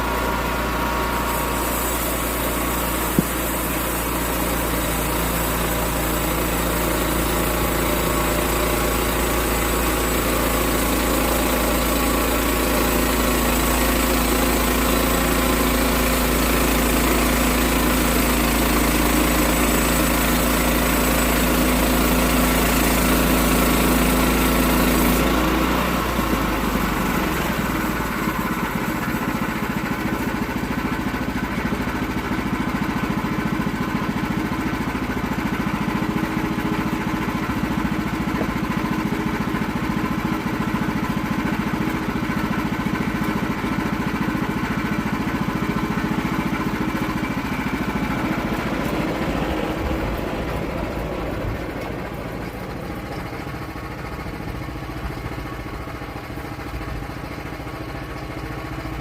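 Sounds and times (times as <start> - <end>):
saw blade cutting log: 0.0 - 50.6
sawmill engine running: 0.0 - 59.0.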